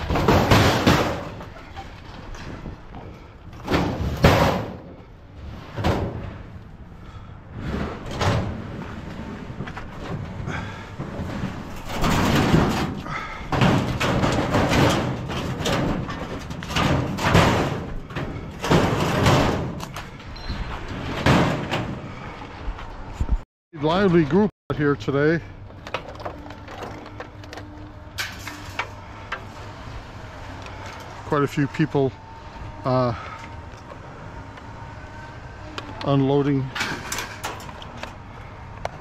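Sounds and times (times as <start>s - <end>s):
metal scrap banging: 0.0s - 22.6s, 25.2s - 39.0s
metal clattering and scraping: 0.0s - 23.3s, 25.1s - 39.0s.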